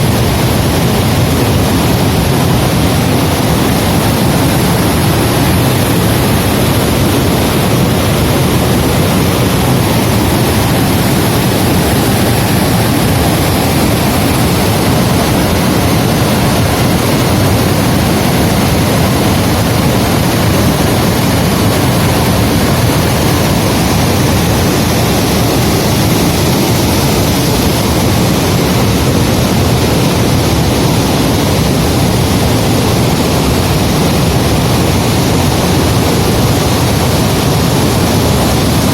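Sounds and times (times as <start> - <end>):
water pouring over a dam: 0.0 - 38.9.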